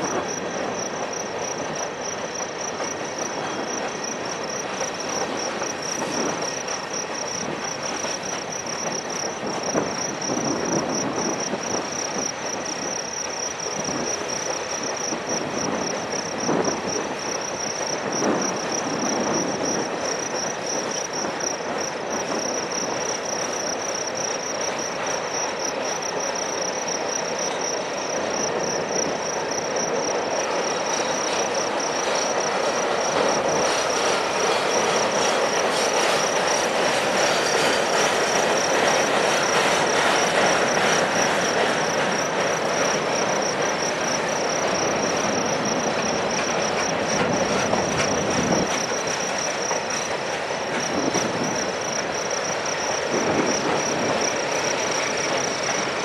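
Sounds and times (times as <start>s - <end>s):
freight train wheels rumbling: 0.0s - 56.0s
insects chirping: 0.0s - 56.0s.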